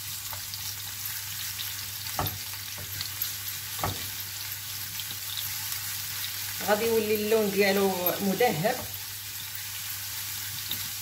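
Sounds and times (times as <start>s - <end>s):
garlic sizzling in oil: 0.0s - 11.0s
spatula stirring in pan: 0.2s - 11.0s.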